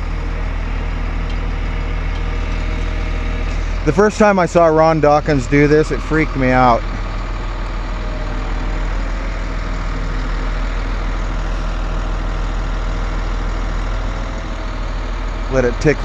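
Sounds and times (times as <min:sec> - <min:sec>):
truck engine running steadily: 0:00.0 - 0:16.0.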